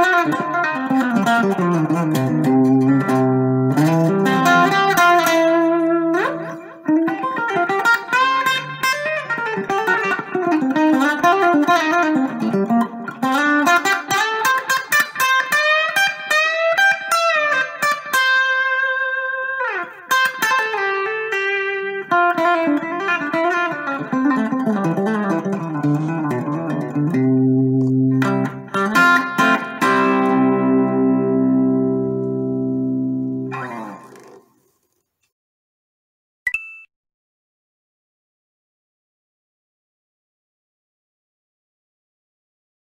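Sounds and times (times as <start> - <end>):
electric guitar playing: 0.0 - 34.5.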